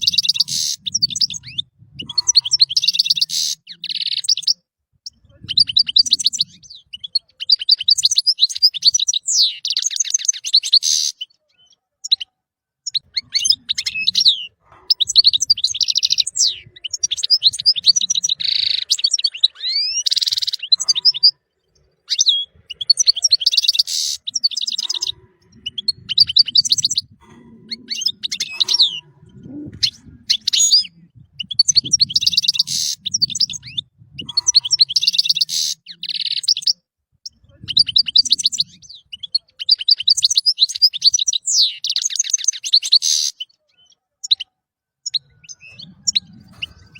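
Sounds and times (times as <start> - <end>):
finch twittering song: 0.0 - 46.9.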